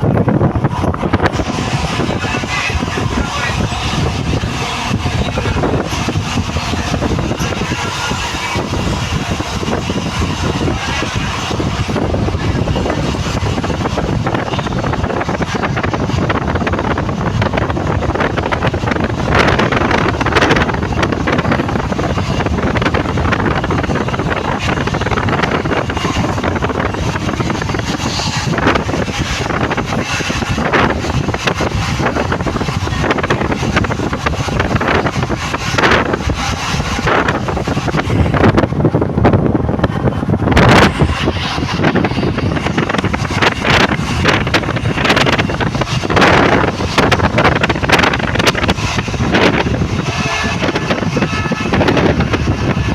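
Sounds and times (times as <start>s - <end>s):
moving vehicle noise: 0.0s - 52.9s
wind buffeting microphone: 0.0s - 52.9s.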